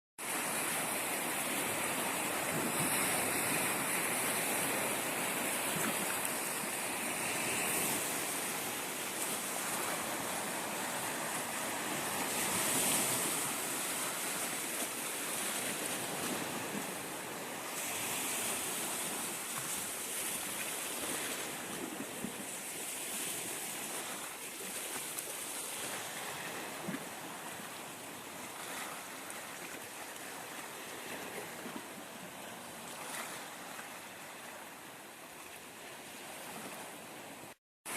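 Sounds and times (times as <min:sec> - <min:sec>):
waves washing onto shore: 0:00.2 - 0:37.9.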